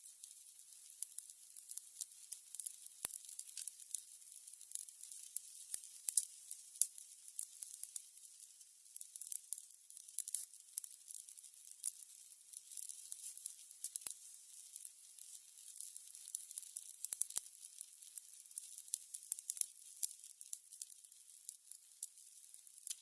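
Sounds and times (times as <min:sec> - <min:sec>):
candles crackling: 0:00.0 - 0:23.0.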